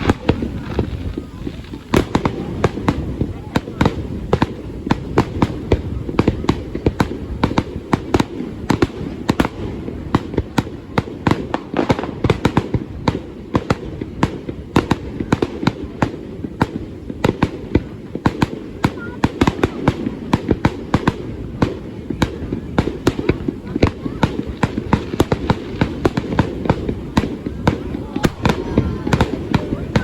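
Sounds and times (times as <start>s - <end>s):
fireworks banging: 0.0s - 30.0s.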